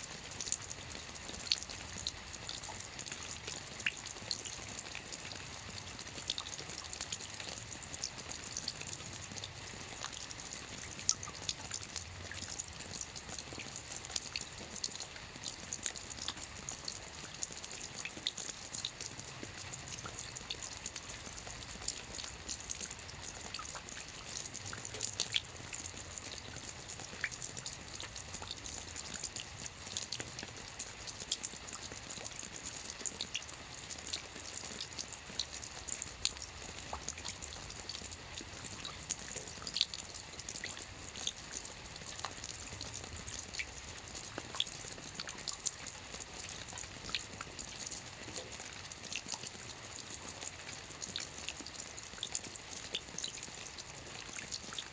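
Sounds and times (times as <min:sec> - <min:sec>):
rain drops ticking on surface: 0:00.0 - 0:54.9.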